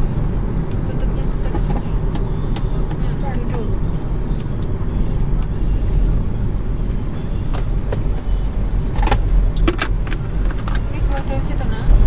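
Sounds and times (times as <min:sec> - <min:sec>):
engine and road rumble: 0:00.0 - 0:12.0
light cabin rattles: 0:00.0 - 0:12.0.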